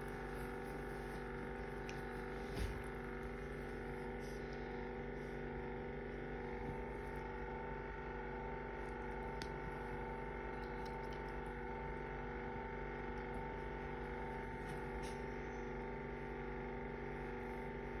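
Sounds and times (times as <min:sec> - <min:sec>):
space heater humming: 0:00.0 - 0:18.0.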